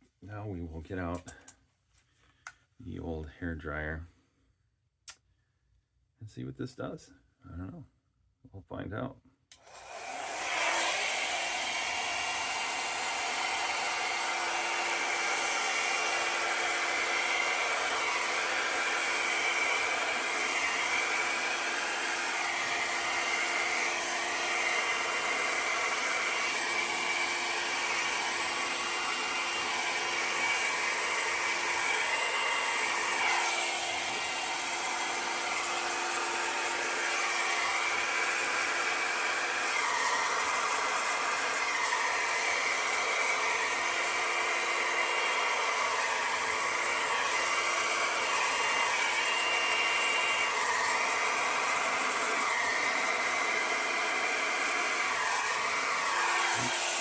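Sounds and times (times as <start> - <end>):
hair dryer running: 9.5 - 57.0.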